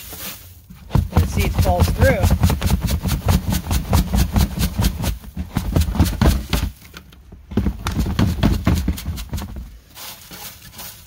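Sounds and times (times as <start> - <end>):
seed screen rattling and scraping: 0.0 - 11.0.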